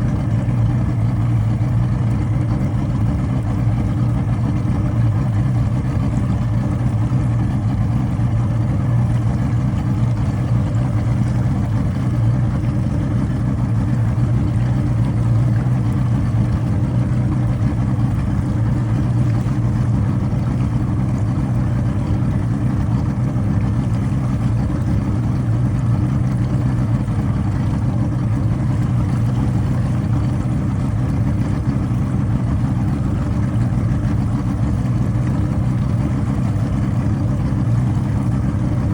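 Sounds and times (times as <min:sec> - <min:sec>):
engine idling roughly: 0:00.0 - 0:38.9.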